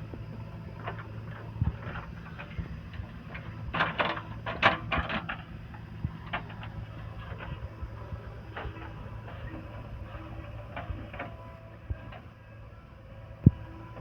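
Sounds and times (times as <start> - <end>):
diesel machinery humming: 0.0 - 14.0.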